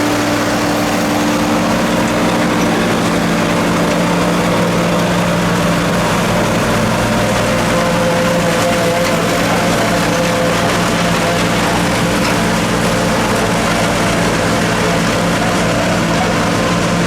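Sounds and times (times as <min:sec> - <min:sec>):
forage harvester chopper whirring: 0:00.0 - 0:17.0
tractor diesel engine drone: 0:00.0 - 0:17.0.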